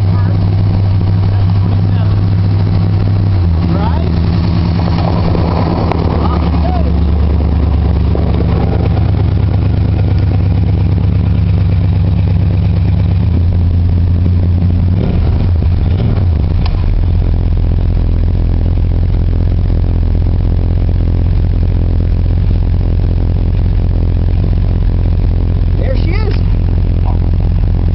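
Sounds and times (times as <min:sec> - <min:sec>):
v eight engine running: 0:00.0 - 0:27.9.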